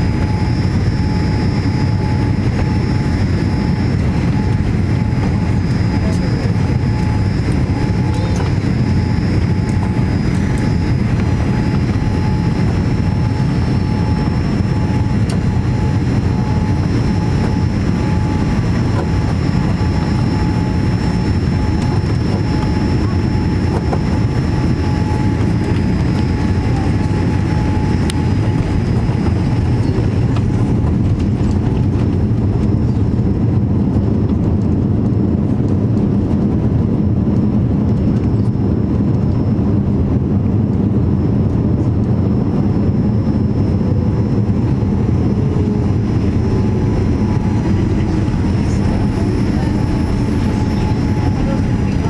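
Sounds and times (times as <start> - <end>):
aircraft cabin low rumble: 0.0 - 52.0.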